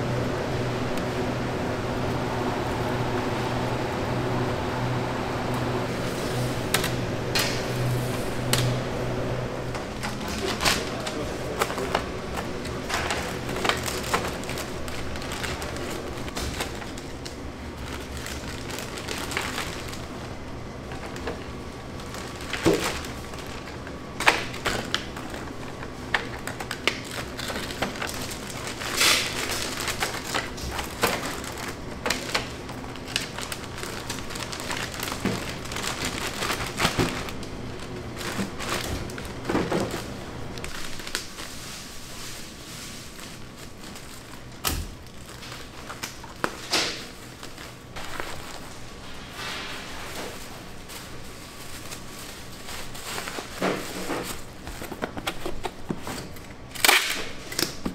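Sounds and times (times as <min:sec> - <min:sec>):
low machine hum: 0:00.0 - 0:57.9.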